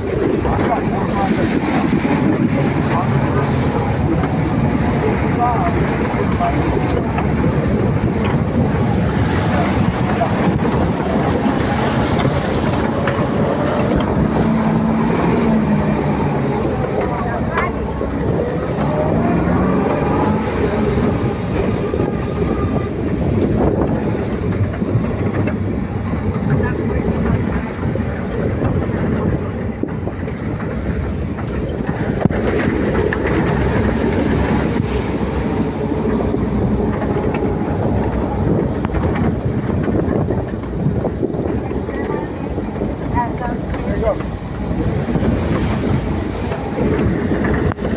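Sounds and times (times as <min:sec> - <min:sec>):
loud rumbling noise: 0:00.0 - 0:47.9
wind on microphone: 0:00.0 - 0:47.9.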